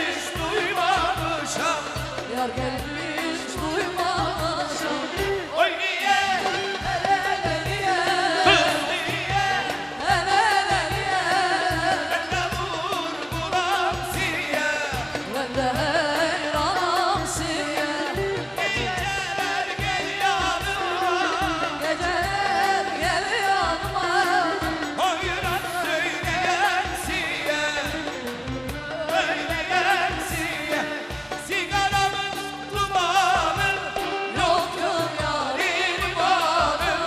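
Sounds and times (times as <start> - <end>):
band playing steady beat: 0.0 - 37.0
person singing ornamented folk song: 0.0 - 37.0.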